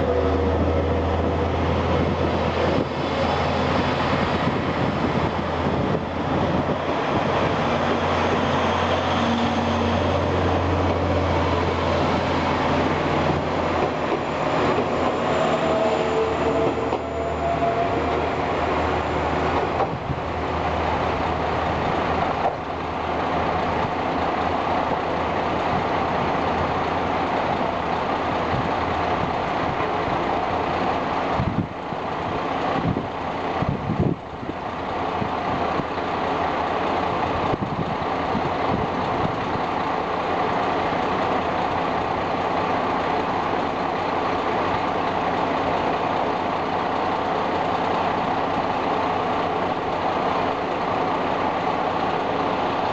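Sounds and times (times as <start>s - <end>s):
departing diesel railcar: 0.0s - 52.9s
diesel engine idling: 0.0s - 52.9s.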